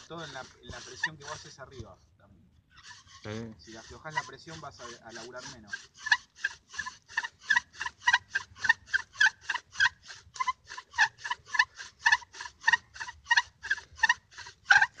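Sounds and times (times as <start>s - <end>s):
bow drill squeaking and rasping: 0.0s - 2.0s, 2.6s - 15.0s.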